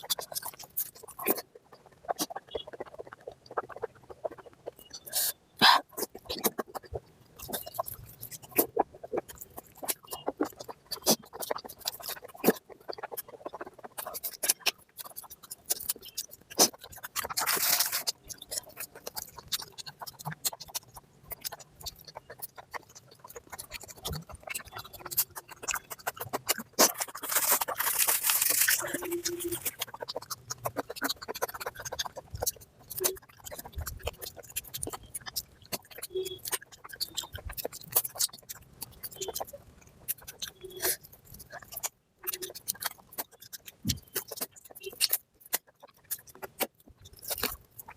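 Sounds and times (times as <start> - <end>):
wet chewing and lip-smacking: 0.0 - 47.9.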